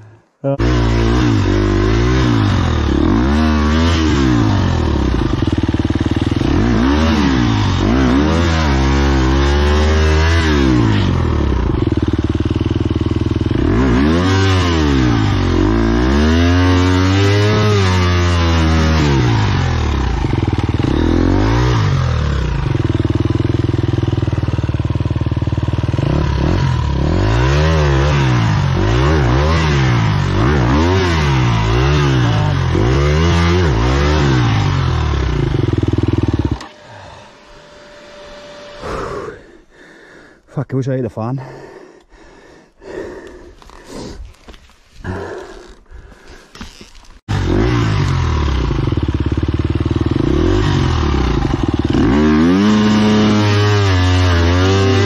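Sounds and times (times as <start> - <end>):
dirt bike engine revving hard: 0.5 - 39.6, 47.2 - 55.0.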